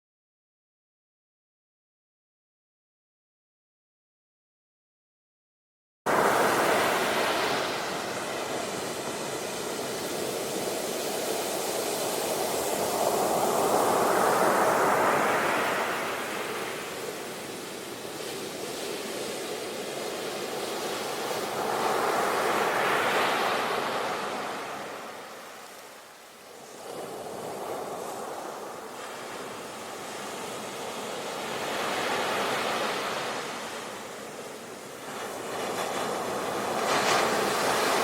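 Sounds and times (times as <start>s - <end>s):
ocean waves breaking on shore: 6.1s - 38.0s.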